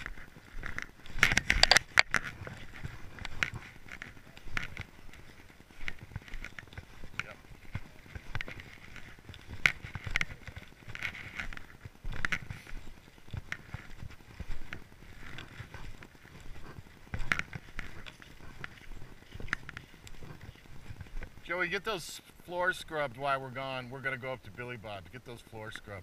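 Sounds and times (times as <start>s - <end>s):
footsteps crunching in snow: 0.0s - 24.9s.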